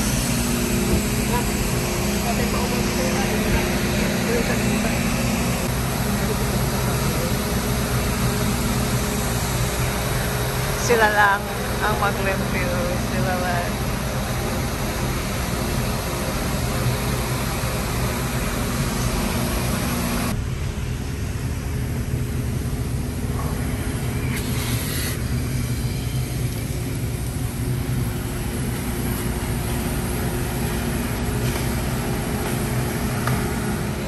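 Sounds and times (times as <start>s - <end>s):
machine running with low hum: 0.0s - 34.0s.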